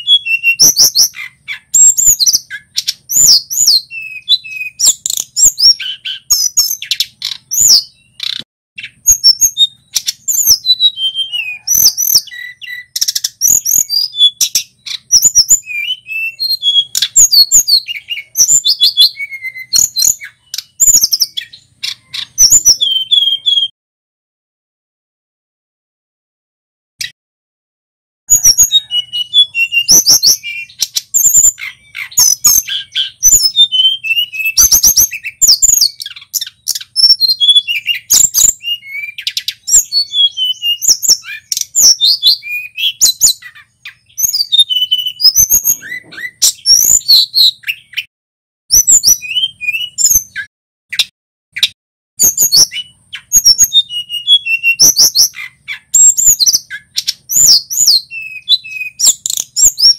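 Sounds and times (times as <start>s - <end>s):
bird singing chirps and trills: 0.0s - 23.7s, 28.3s - 48.1s, 48.7s - 59.9s.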